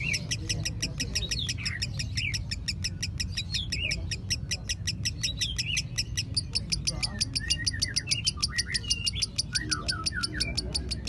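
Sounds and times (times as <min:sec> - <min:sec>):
bird chirps: 0:00.0 - 0:11.0
songbird singing high repeated notes: 0:00.0 - 0:11.0.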